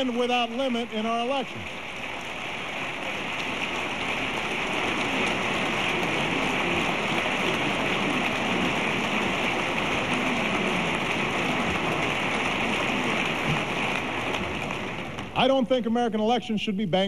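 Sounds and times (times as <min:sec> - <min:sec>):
crowd applauding: 0:00.0 - 0:15.6.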